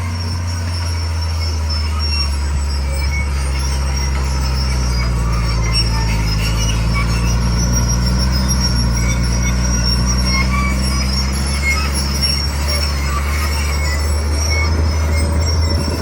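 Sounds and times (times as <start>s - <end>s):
bulldozer diesel engine running: 0.0s - 16.0s
steel tracks squealing: 0.0s - 16.0s.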